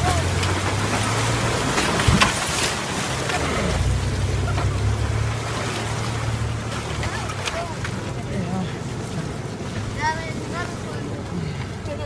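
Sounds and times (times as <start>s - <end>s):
engine running low: 0.0s - 12.0s
tyre splashing through muddy water: 0.0s - 12.0s.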